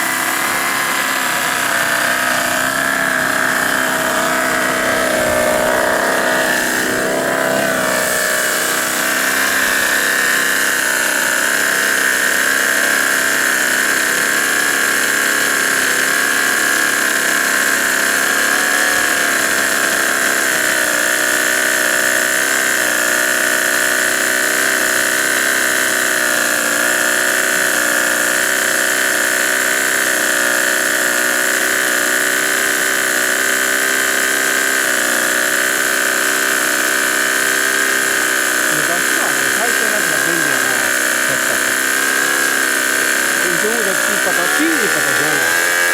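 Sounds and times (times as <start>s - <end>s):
model aircraft engine running: 0.0s - 45.9s.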